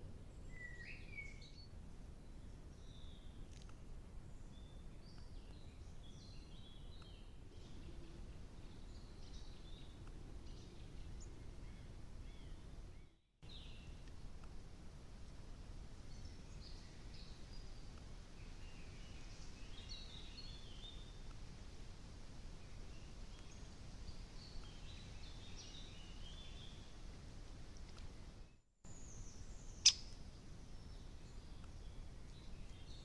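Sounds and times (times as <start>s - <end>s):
low background hiss: 0.0s - 33.0s
small birds chirping and singing: 0.3s - 3.7s, 4.3s - 14.1s, 16.0s - 21.4s, 22.5s - 27.0s, 28.9s - 33.0s.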